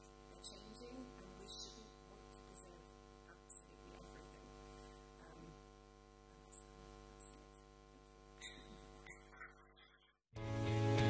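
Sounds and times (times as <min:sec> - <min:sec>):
faint electrical hum: 0:00.0 - 0:10.2.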